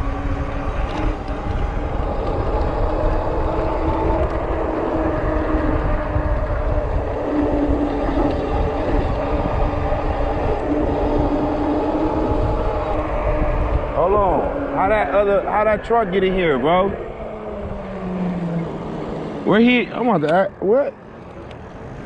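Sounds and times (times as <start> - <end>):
motor droning: 0.0 - 22.0
wind rumble on microphone: 0.0 - 22.0.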